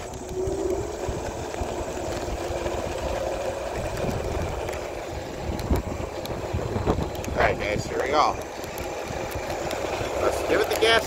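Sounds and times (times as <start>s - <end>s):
electric motor whine: 0.0s - 11.0s
tyres and wind rumble: 0.0s - 11.0s.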